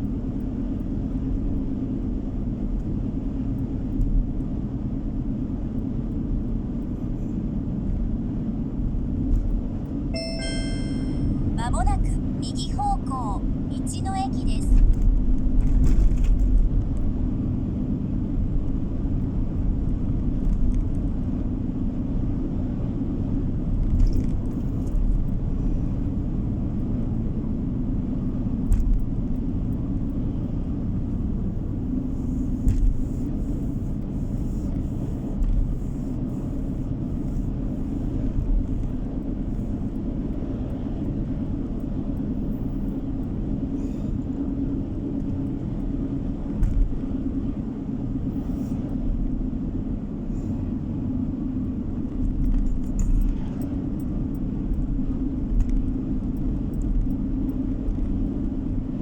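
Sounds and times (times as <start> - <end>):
car road noise rumble: 0.0 - 59.0.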